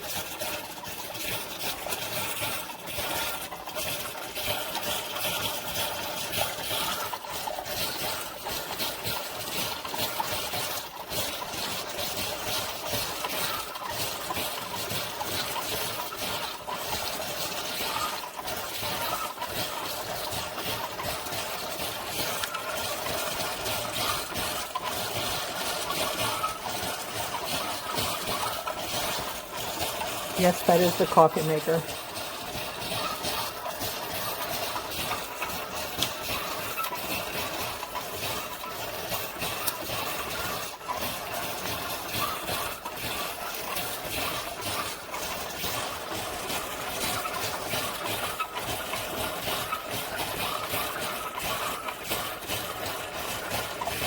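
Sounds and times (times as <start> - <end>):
coffee maker pump: 0.0 - 54.0.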